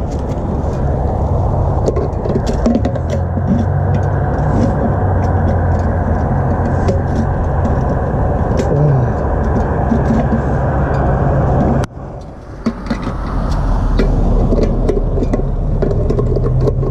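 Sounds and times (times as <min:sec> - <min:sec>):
go-kart engine running: 0:00.0 - 0:16.9
clicks and rattles: 0:01.7 - 0:16.9.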